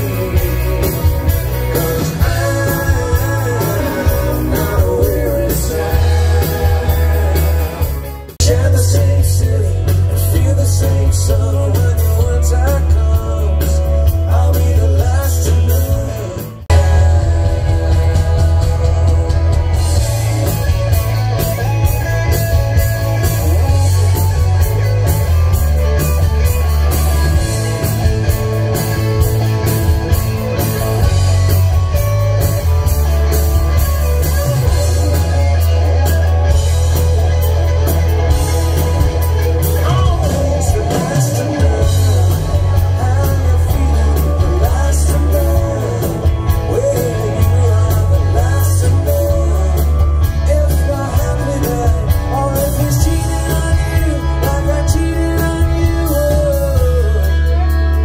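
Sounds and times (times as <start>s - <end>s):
man singing: 0.0s - 25.0s, 33.3s - 36.8s, 38.8s - 58.0s
live rock band: 0.0s - 58.0s.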